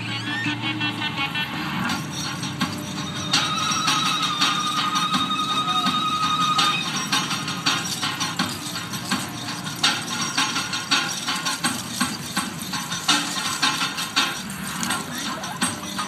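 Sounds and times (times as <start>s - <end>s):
metallic clinking and jingling: 1.7s - 16.0s.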